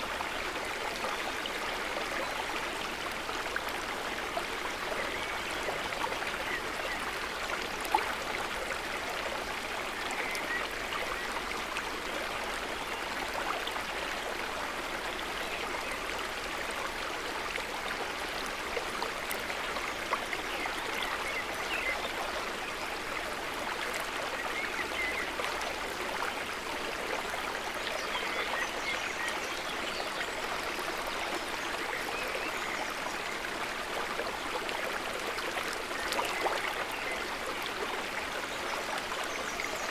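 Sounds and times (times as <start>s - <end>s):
stream of running water babbling: 0.0s - 39.9s.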